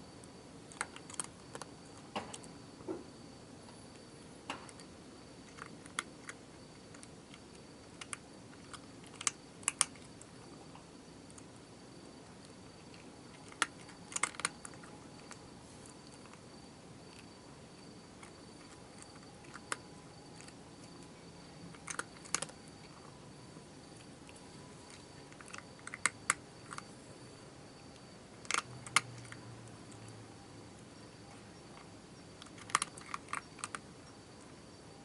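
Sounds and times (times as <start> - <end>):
cricket trilling: 0.0 - 35.0.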